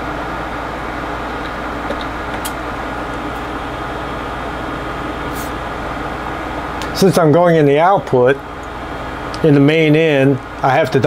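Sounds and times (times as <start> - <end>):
workshop hum and hiss: 0.0 - 11.0.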